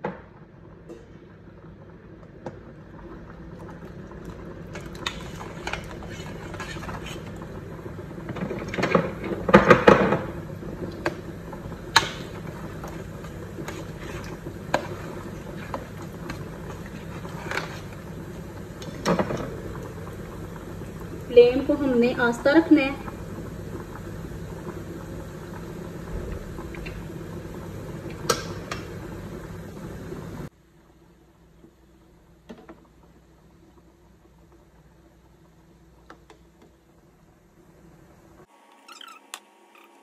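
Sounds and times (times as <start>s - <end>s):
batter frying in hot oil: 0.4s - 36.9s.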